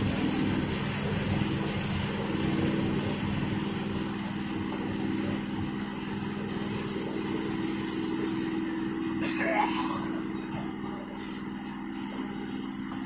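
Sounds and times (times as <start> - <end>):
constant low hum: 0.0 - 13.0
train wheels rumbling on rail: 0.0 - 13.0.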